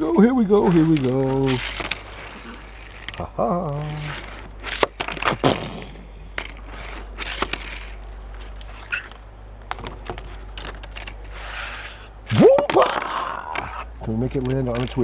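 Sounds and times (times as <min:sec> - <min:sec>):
toy car clattering on hard surface: 0:00.6 - 0:15.0.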